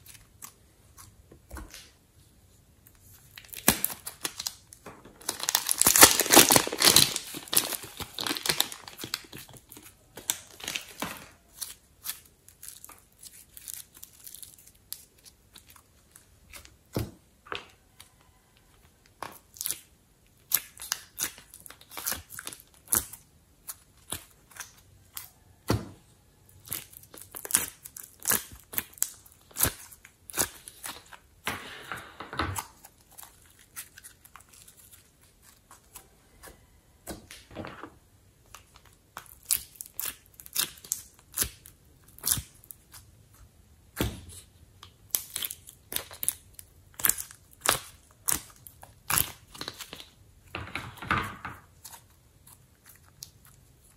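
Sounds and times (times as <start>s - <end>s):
crackling slime squelches: 0.0s - 31.5s, 32.6s - 50.6s, 51.6s - 53.9s.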